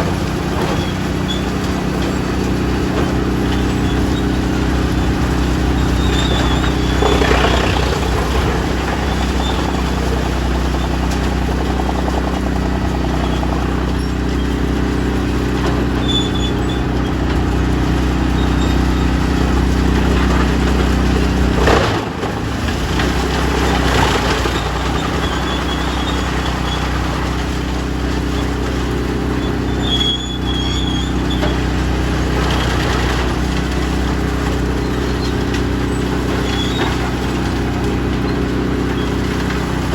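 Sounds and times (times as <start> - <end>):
large diesel engine running: 0.0 - 39.9.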